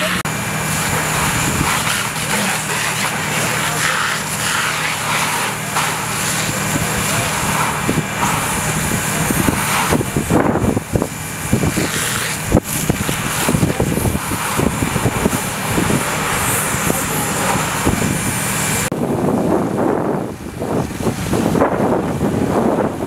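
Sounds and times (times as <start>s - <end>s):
engine hum: 0.0s - 23.0s
fire hose spraying water: 0.0s - 23.0s
wind buffeting microphone: 0.0s - 23.0s.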